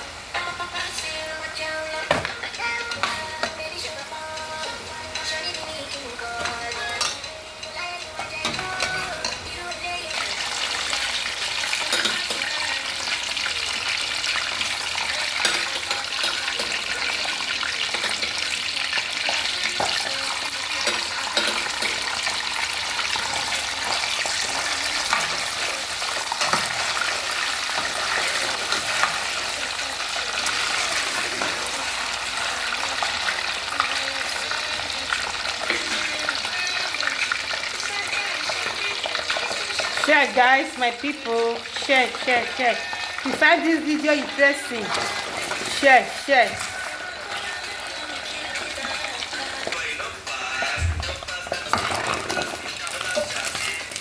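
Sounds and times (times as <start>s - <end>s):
potatoes deep-frying in oil: 0.0s - 54.0s.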